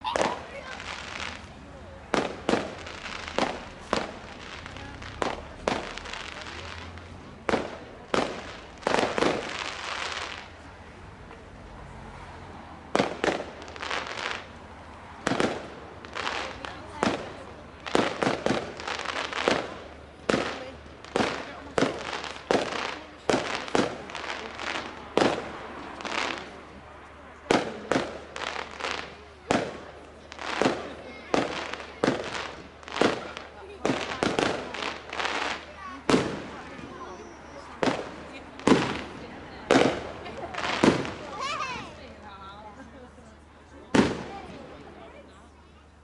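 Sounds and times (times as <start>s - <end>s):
fireworks bangs: 0.0s - 10.6s, 12.9s - 14.6s, 15.2s - 26.8s, 27.4s - 41.8s, 43.9s - 44.9s.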